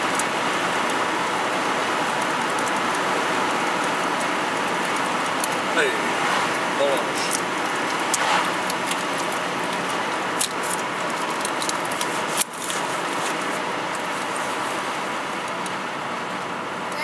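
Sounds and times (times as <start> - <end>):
car cabin tyre and wind noise: 0.0 - 17.0.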